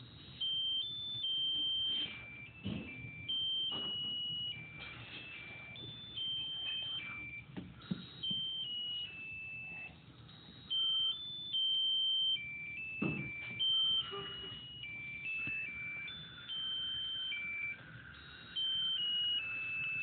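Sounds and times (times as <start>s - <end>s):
tinny electronic beeping melody: 0.0s - 20.0s.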